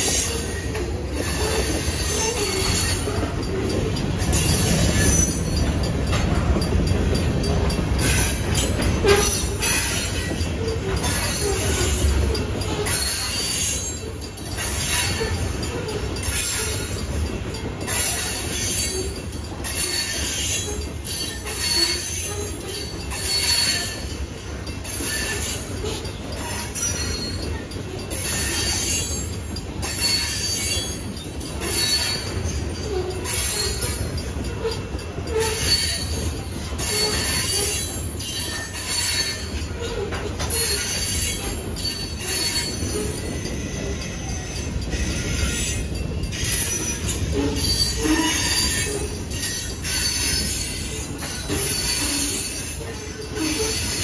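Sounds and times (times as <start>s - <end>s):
wheel squeals: 0.0s - 5.8s, 7.7s - 54.0s
train wheels rumbling on rail: 0.0s - 54.0s.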